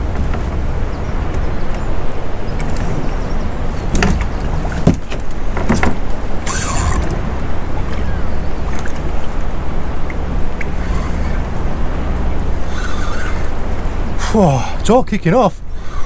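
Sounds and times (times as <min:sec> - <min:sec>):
sea and boat rumble: 0:00.0 - 0:16.0.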